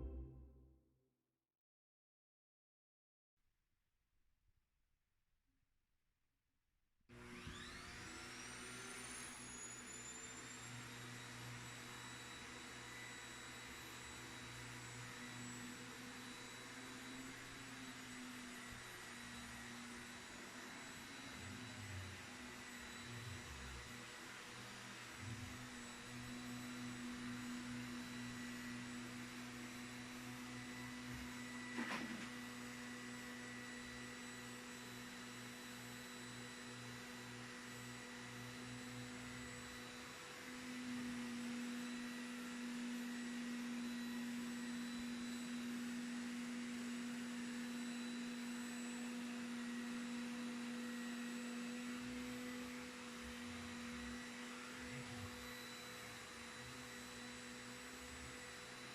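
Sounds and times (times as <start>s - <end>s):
vacuum cleaner motor humming: 7.2s - 58.9s.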